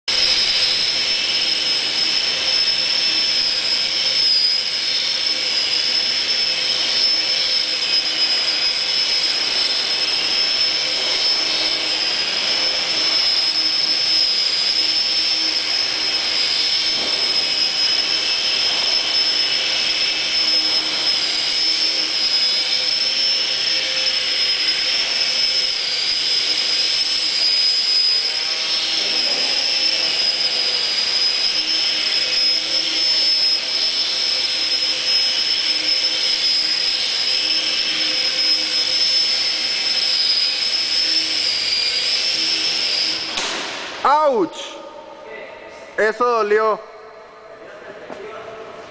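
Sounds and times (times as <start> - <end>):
model plane motor whine: 0.1 - 43.4.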